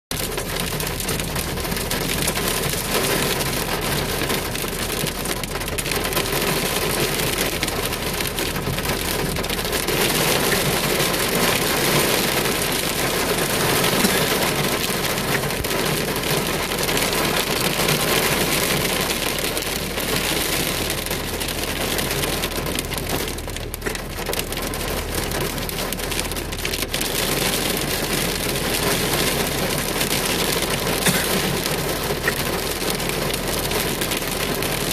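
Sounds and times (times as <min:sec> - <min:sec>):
heavy rain on car roof: 0:00.1 - 0:34.9.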